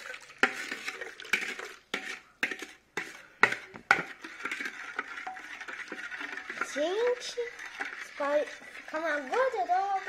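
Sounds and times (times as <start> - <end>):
spoon scraping mixing bowl: 0.0 - 10.0.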